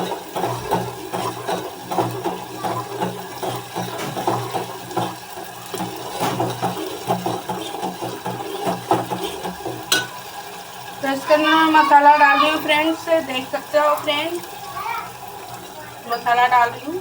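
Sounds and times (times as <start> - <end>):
paste sizzling in hot oil: 0.0 - 17.0.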